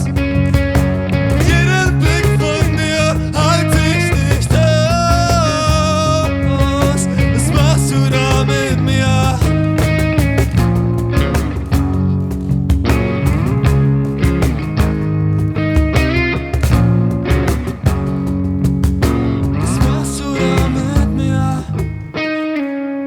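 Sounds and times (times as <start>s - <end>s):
guitar strumming: 0.0s - 23.0s.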